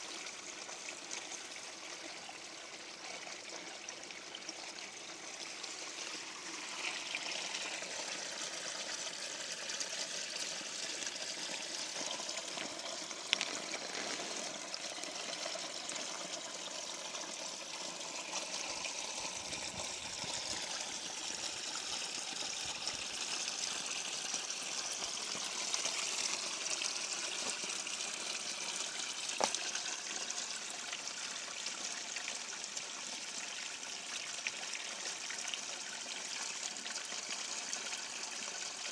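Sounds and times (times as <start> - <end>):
creek water trickling over rocks: 0.0 - 38.9.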